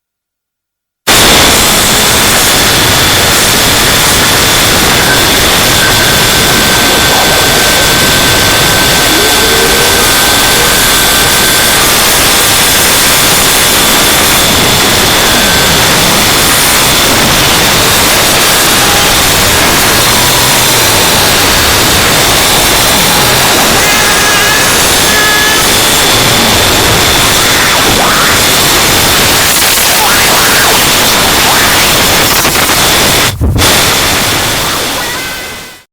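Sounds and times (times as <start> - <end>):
static-like hiss: 1.1 - 35.9.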